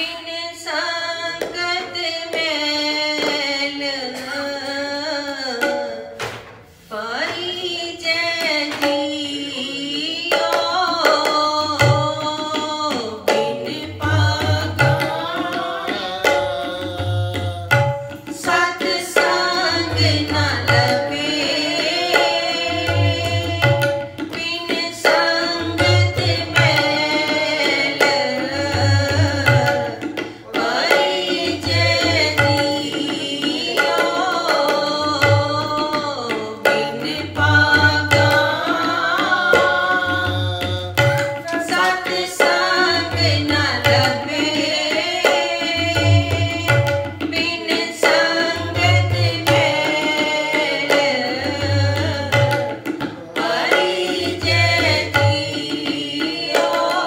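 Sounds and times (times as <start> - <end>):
woman singing: 0.0 - 6.2, 6.9 - 17.5, 18.1 - 57.0
tabla drumming: 0.0 - 57.0.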